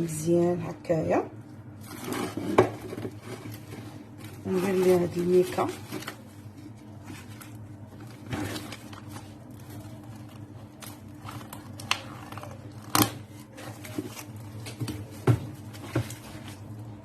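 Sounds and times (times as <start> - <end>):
low steady hum: 0.0 - 17.0
plastic sheet crinkling: 1.8 - 17.0.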